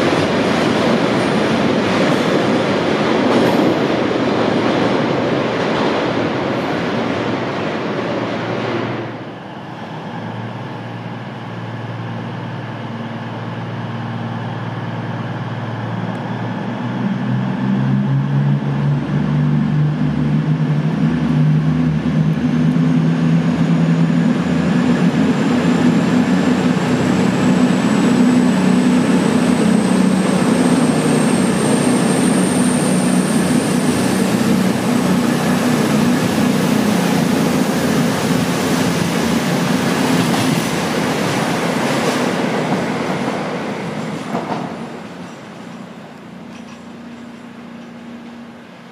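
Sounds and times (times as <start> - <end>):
diesel train engines: 0.0 - 48.9.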